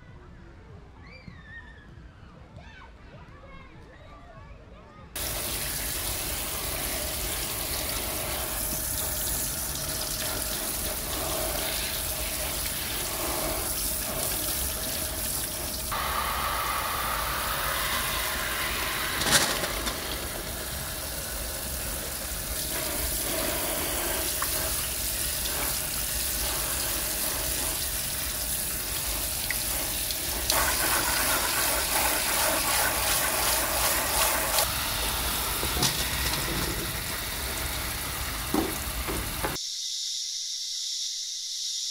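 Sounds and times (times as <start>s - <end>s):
tap water splashing into colander: 5.2s - 39.6s.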